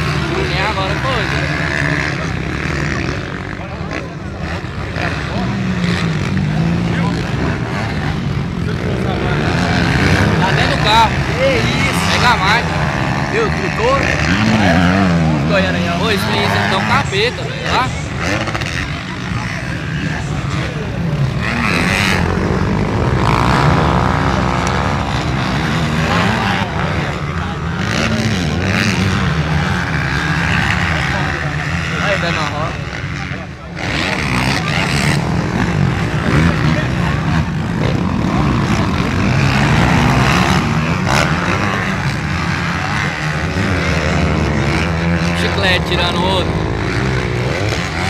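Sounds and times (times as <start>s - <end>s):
motocross bike engines revving: 0.0s - 48.0s.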